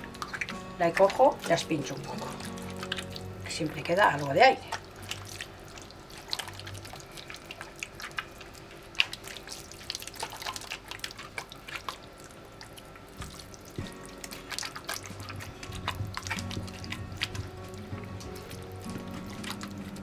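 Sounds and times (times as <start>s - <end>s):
wet filling squelching by hand: 0.0s - 20.0s.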